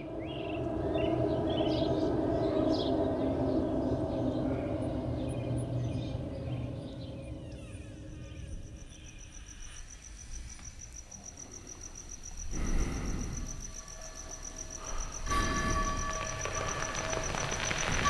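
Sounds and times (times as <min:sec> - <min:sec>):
pulsing insect-like chirping: 0:00.0 - 0:18.0.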